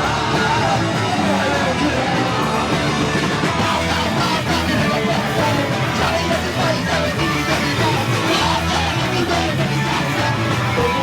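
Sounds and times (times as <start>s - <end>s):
punk rock band playing live: 0.0s - 11.0s.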